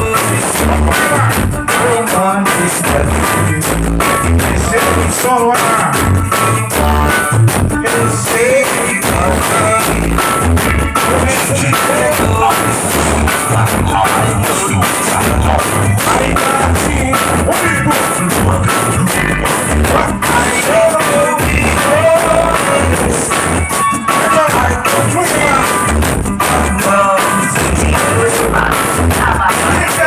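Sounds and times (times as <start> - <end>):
music with pulsing bass beat: 0.0 - 30.0
person singing: 0.0 - 30.0.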